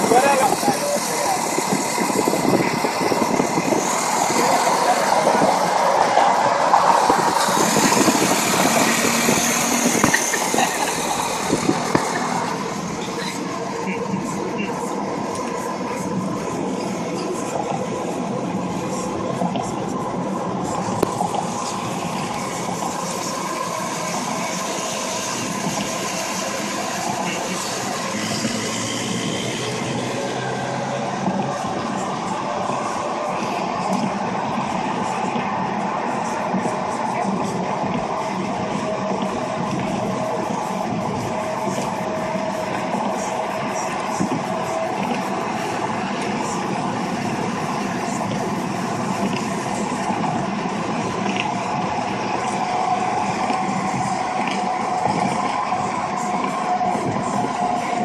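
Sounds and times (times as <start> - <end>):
wind and road noise through car window: 0.0 - 58.0
wind buffeting: 0.0 - 58.0.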